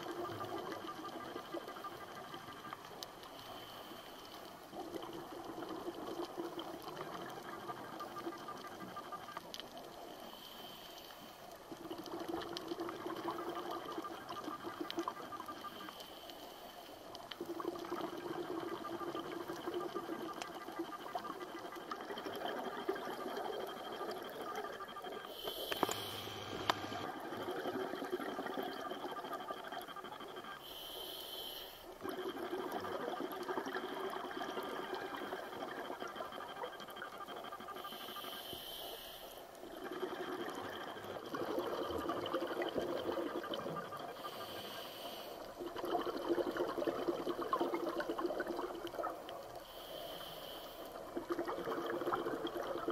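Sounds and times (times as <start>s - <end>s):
underwater water and bubbles: 0.0s - 52.9s.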